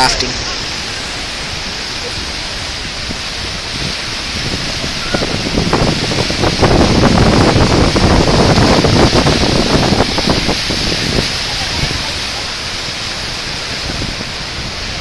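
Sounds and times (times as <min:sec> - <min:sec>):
rushing roar of river rapids: 0:00.0 - 0:15.0
wind buffeting microphone: 0:00.0 - 0:15.0.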